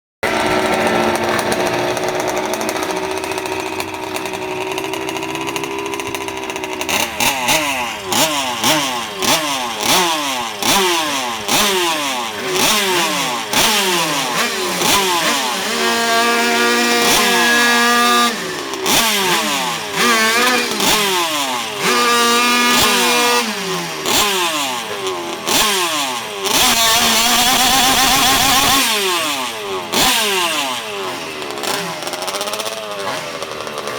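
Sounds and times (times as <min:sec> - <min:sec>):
two-stroke racing engine revving: 0:00.2 - 0:33.9.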